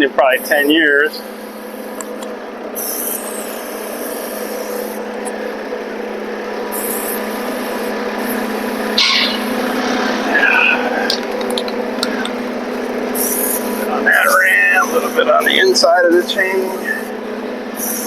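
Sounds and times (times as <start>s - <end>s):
forklift engine idling: 0.0s - 18.0s.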